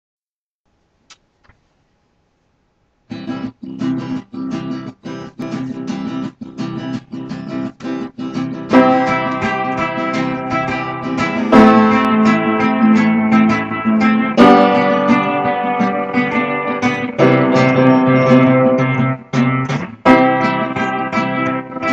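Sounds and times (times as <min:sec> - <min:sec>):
strummed guitar chords: 0:03.1 - 0:21.9.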